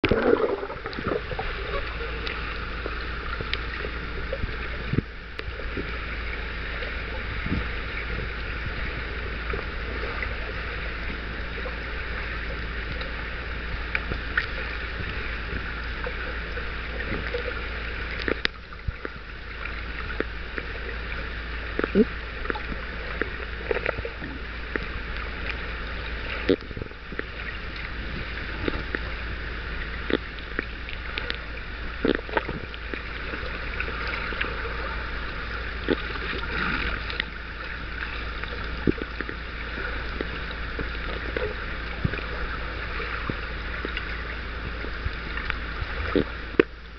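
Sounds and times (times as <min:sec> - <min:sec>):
low hum: 0:00.0 - 0:46.9
small underwater clicks and knocks: 0:00.0 - 0:46.9.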